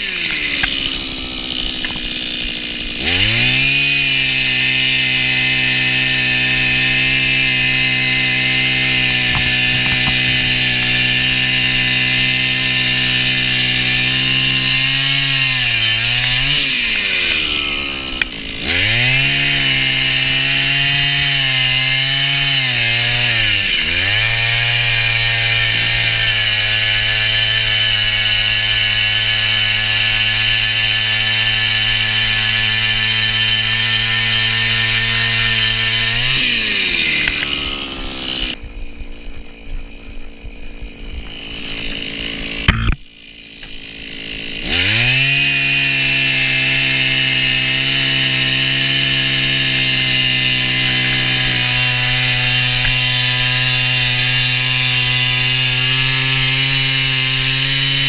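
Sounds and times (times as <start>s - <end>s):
ice auger engine: 0.0s - 58.0s.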